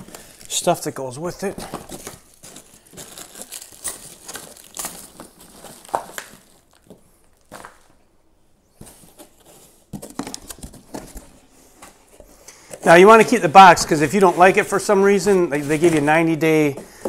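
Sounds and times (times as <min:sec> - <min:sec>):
packaging rustling and crinkling: 0:00.0 - 0:08.0, 0:08.8 - 0:17.0.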